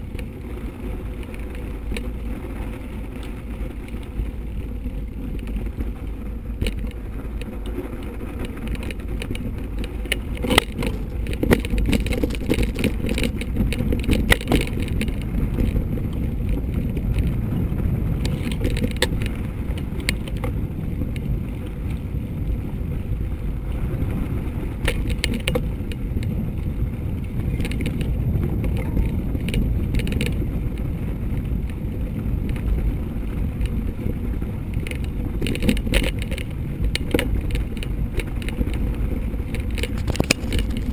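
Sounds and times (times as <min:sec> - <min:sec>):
bike clicks and knocks over bumps: 0:00.0 - 0:40.9
bike tyres rumbling: 0:00.0 - 0:40.9
wind on microphone: 0:00.0 - 0:40.9.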